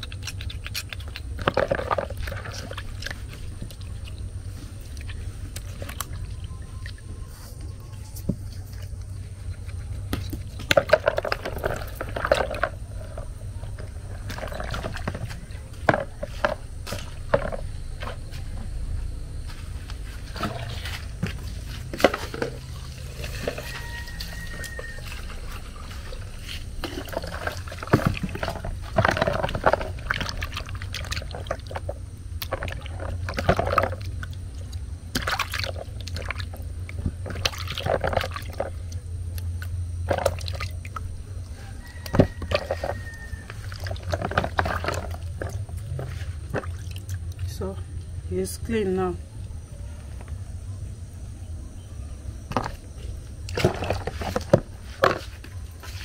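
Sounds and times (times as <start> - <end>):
water sloshing and splashing: 0.0 - 18.6, 19.5 - 47.8, 52.5 - 56.0.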